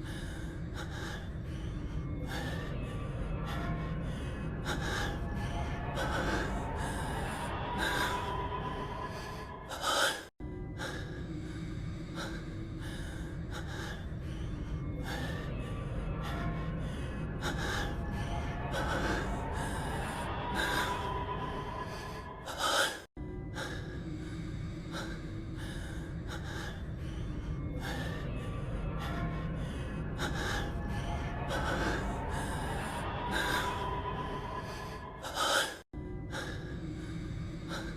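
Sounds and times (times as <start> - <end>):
man gasping breaths: 0.0 - 8.2, 8.9 - 37.9
low background music: 0.0 - 37.9.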